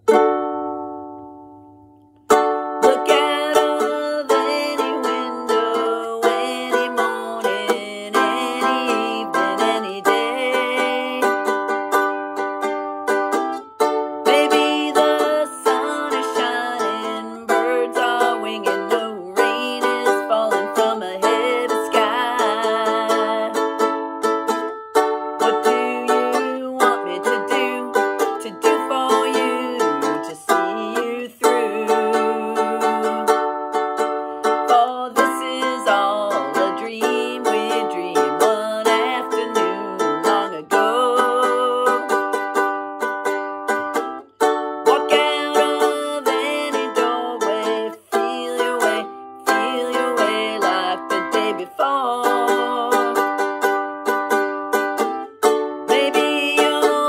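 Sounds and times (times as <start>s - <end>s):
ukulele strumming: 0.0s - 57.0s
woman singing: 2.8s - 12.1s, 13.6s - 24.1s, 25.3s - 33.6s, 34.4s - 42.7s, 44.7s - 53.7s, 55.0s - 57.0s.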